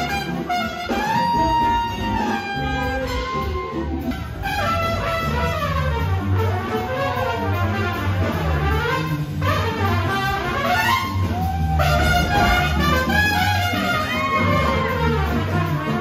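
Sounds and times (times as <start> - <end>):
jazz band playing: 0.0 - 16.0
trumpet sliding phrases: 0.0 - 16.0
steady low bass: 1.4 - 16.0.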